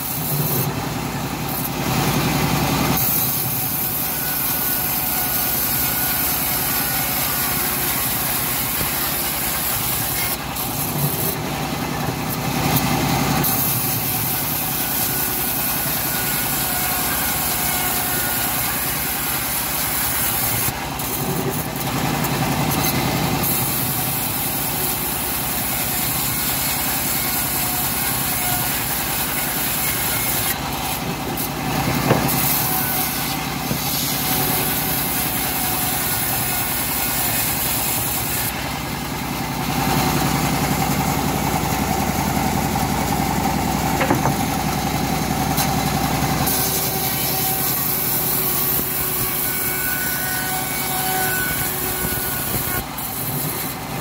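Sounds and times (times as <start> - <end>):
bandsaw mill cutting wood: 0.0 - 54.0.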